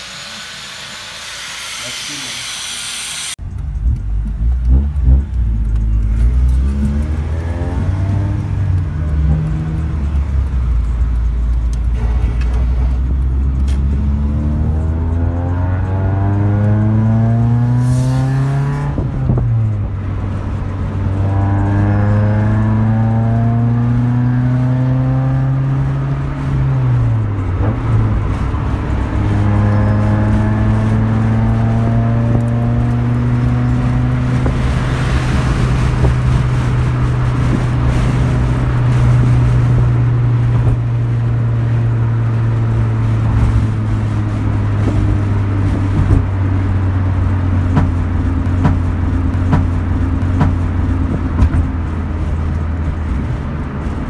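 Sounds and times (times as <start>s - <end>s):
car engine while driving: 0.0s - 54.0s
road noise: 0.0s - 54.0s.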